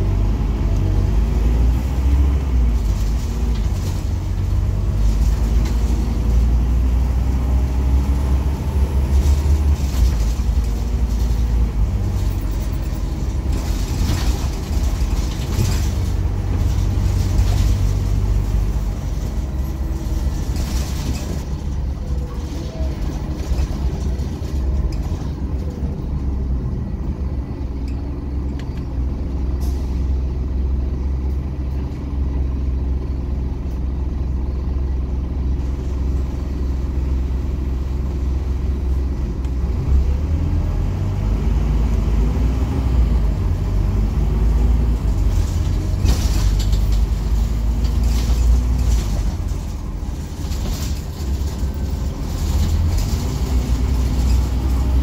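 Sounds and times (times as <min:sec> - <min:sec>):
bus engine hum: 0:00.0 - 0:55.0.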